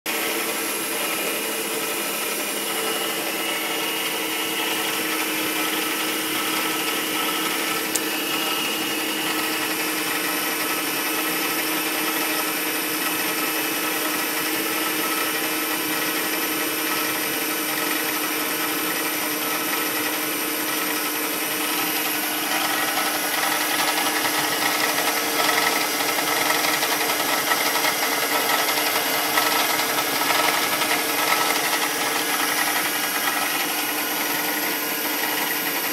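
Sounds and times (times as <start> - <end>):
car engine running: 0.1 - 35.9
engine knocking and rattling: 0.1 - 35.9.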